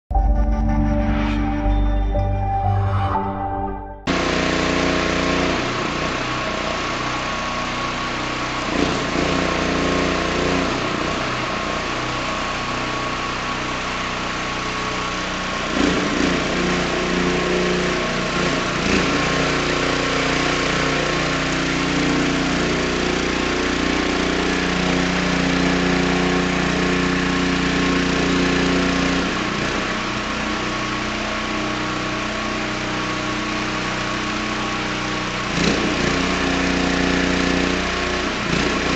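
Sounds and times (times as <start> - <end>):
generator engine running: 4.1 - 38.9.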